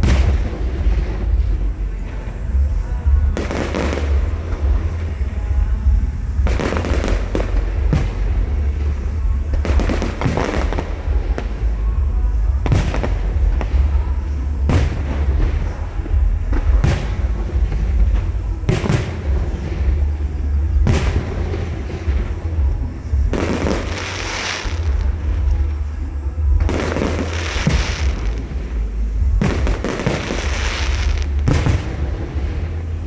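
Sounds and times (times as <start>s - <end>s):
fireworks bangs: 0.0s - 33.0s
fireworks crackling: 0.0s - 33.0s
low rumble: 0.0s - 33.0s.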